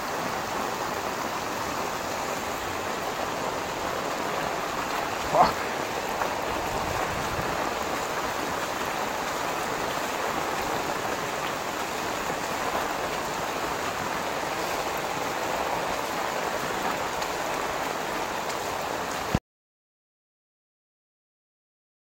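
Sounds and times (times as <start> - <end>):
rain falling: 0.0 - 19.4.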